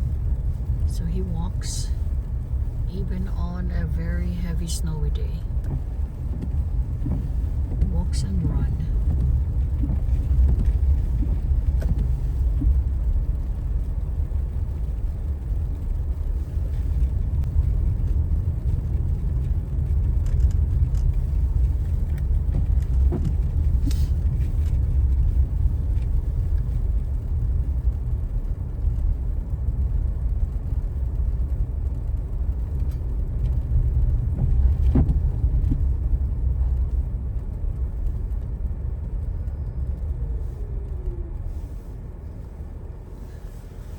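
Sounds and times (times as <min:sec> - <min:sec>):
car driving rumble inside cabin: 0:00.0 - 0:43.9.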